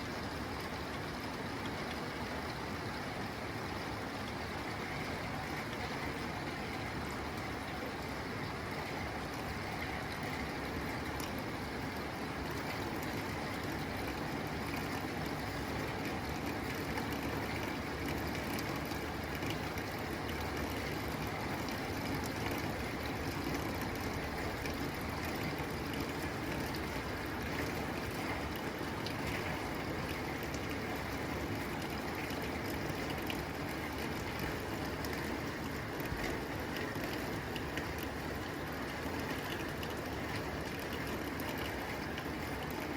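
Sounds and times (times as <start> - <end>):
rain on a tin roof: 0.0 - 42.9.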